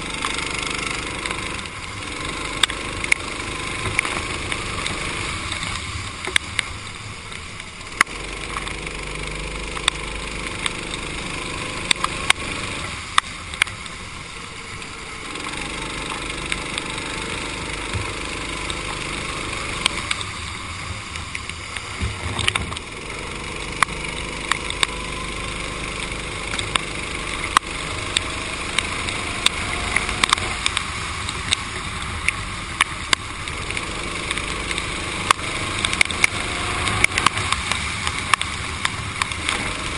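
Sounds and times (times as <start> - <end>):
kart engine revving: 0.0 - 6.2, 7.8 - 39.9
sharp ticks: 0.0 - 39.9
tyres hissing on wet track: 0.0 - 39.9.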